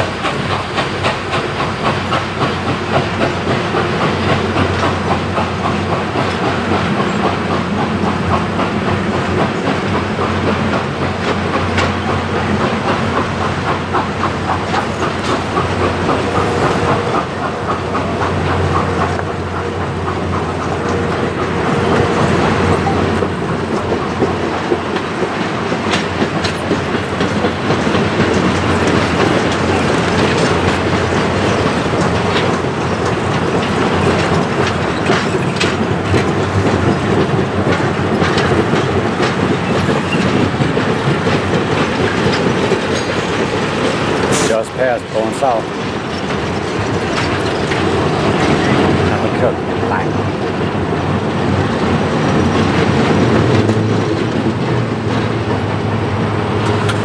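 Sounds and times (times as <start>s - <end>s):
rumble of wheels on rail: 0.0s - 57.0s
wheels clicking over rail joints: 0.0s - 57.0s.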